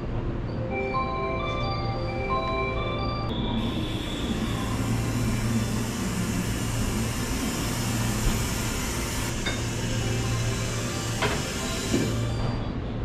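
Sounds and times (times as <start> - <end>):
train equipment hum and hiss: 0.0 - 13.0.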